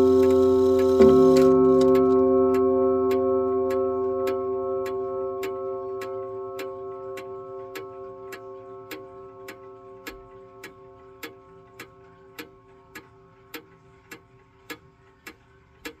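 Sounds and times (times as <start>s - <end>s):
clock gong ringing: 0.0s - 13.5s
pendulum clock ticking: 0.0s - 16.0s.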